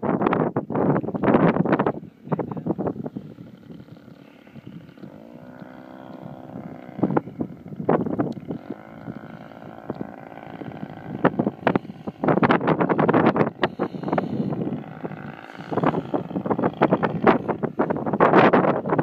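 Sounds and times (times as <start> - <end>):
wind buffeting microphone: 0.0 - 19.0
distant model plane engine: 0.3 - 19.0.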